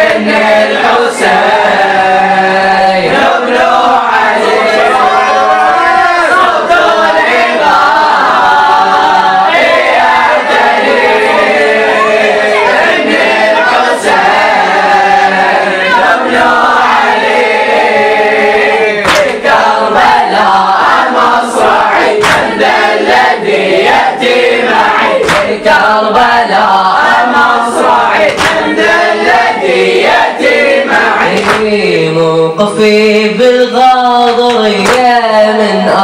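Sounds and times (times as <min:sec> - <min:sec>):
boys chanting in chorus: 0:00.0 - 0:36.0.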